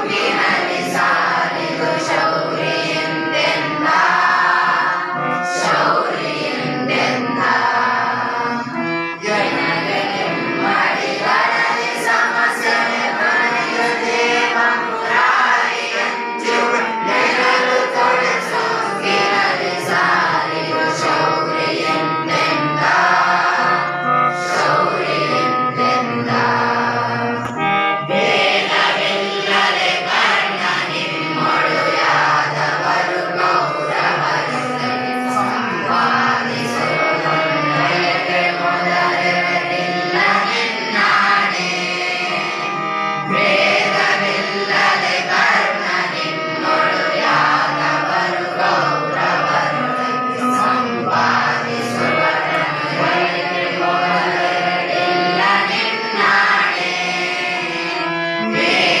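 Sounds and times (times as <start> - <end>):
students singing in chorus: 0.0 - 59.0.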